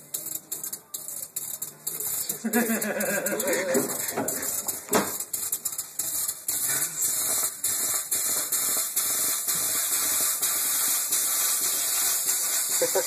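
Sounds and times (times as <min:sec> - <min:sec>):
water hissing into steam: 0:00.0 - 0:13.0.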